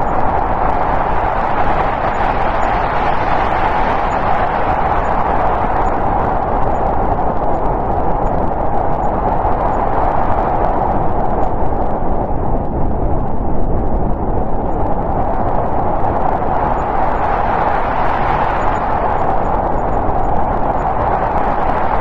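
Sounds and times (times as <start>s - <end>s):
snowstorm wind blowing: 0.0s - 22.0s.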